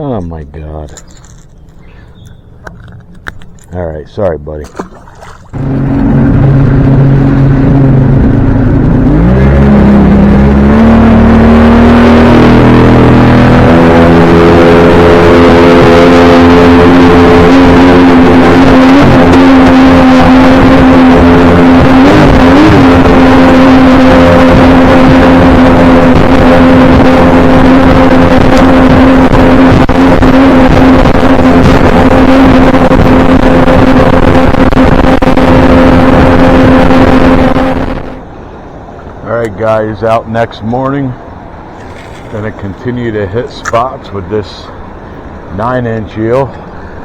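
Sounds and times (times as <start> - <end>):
boat motor running: 0.0 - 47.0.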